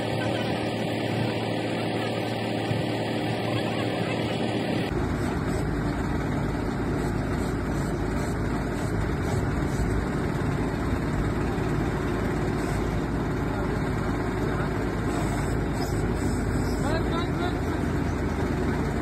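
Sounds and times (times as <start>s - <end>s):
drilling rig engine droning: 0.0s - 19.0s.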